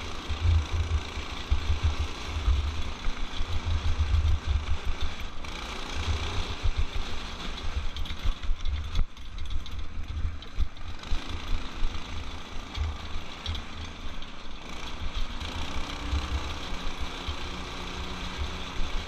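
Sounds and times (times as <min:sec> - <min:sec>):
go-kart engine running: 0:00.0 - 0:19.0.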